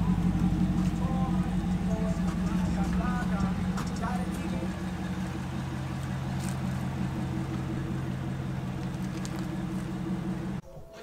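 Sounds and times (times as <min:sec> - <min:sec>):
steady low drone: 0:00.0 - 0:10.6.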